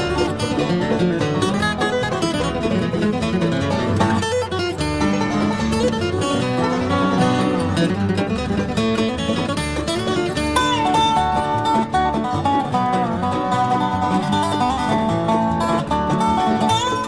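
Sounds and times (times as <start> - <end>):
acoustic guitar: 0.0 - 17.0
banjo: 0.0 - 17.0
bass: 0.0 - 17.0
resonator guitar sliding lead: 0.0 - 17.0.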